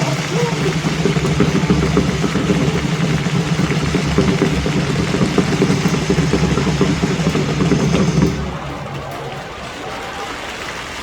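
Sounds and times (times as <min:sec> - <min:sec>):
amplified cheering music: 0:00.0 - 0:11.0
stadium crowd din: 0:00.0 - 0:11.0.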